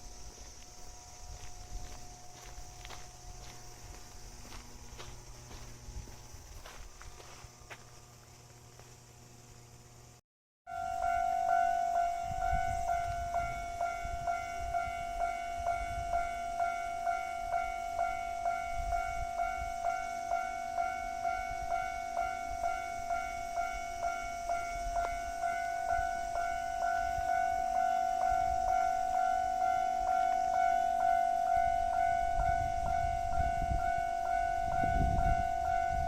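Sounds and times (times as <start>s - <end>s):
level crossing alarm ringing: 0.0s - 7.9s, 10.7s - 36.0s.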